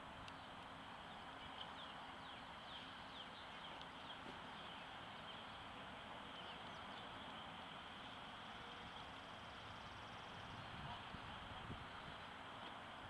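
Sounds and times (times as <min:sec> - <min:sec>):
faint outdoor hiss: 0:00.0 - 0:13.0
small birds chirping: 0:00.2 - 0:12.2.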